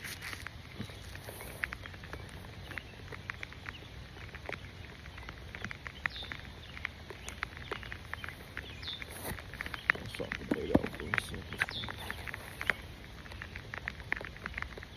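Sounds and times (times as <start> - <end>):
raindrops pattering: 0.0 - 14.9.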